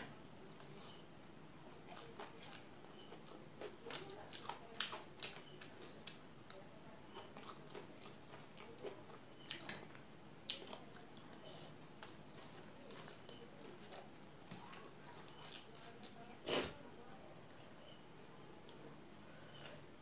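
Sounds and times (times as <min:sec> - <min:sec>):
faint chewing and eating: 0:00.0 - 0:20.0.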